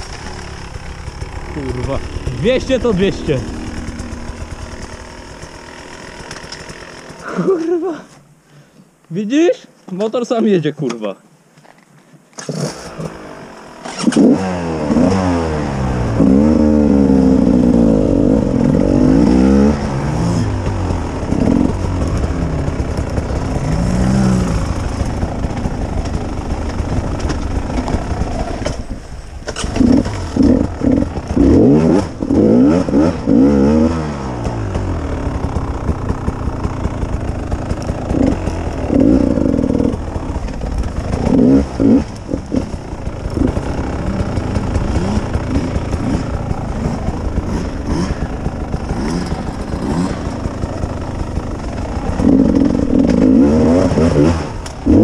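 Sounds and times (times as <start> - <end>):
motorcycle engine revving: 0.0 - 7.9, 12.4 - 55.0.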